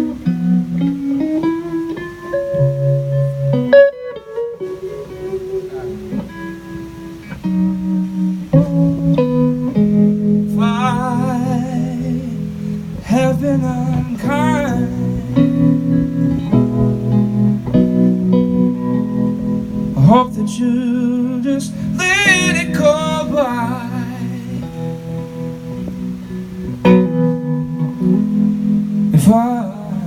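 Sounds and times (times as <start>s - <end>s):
solo guitar playing: 0.0s - 30.0s.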